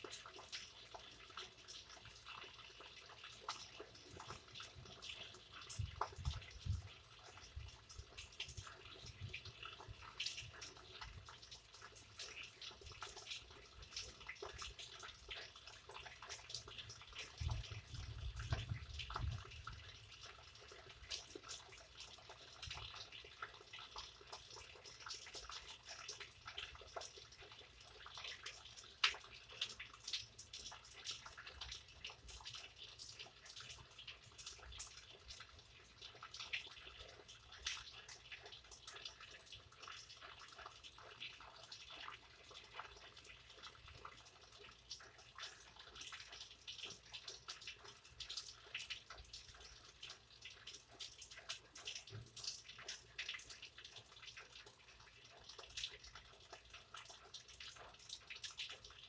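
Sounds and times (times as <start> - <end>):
raindrops ticking and dripping: 0.0 - 59.0.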